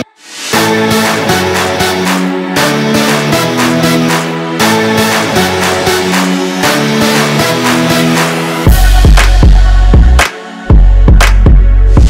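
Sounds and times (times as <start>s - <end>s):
synth chords over a beat: 0.0s - 12.0s.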